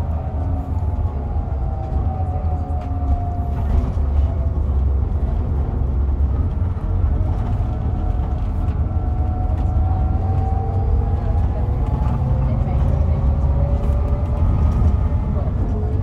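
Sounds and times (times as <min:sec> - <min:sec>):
coach diesel engine rumble: 0:00.0 - 0:16.0.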